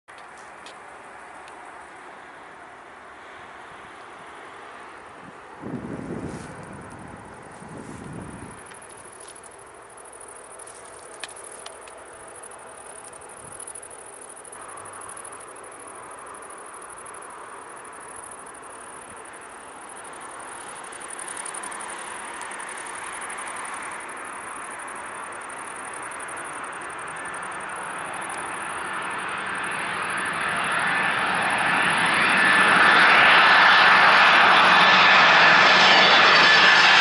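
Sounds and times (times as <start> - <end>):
crickets chirping: 0.1 - 37.0
distant jet engines rushing: 0.1 - 37.0.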